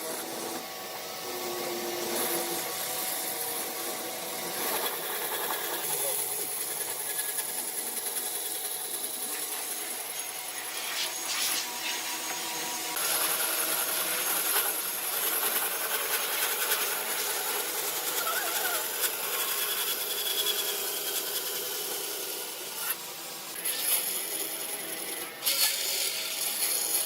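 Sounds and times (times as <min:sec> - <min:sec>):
tool rubbing wood: 0:00.0 - 0:23.0.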